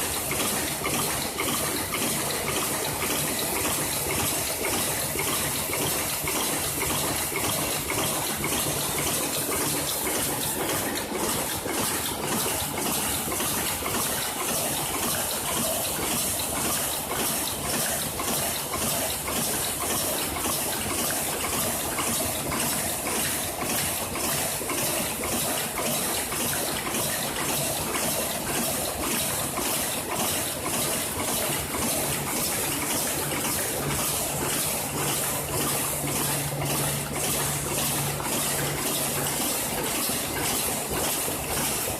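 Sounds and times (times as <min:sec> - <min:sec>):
machine rhythmic strokes: 0:00.0 - 0:41.9.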